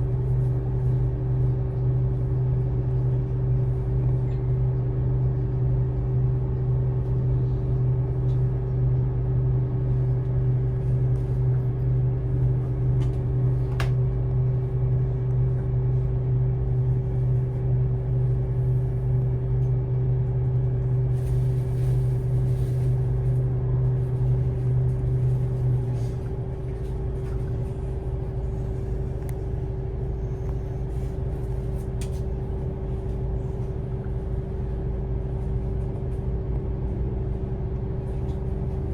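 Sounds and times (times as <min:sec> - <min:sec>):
bus engine and road drone: 0:00.0 - 0:38.9
strong low hum: 0:00.0 - 0:38.9.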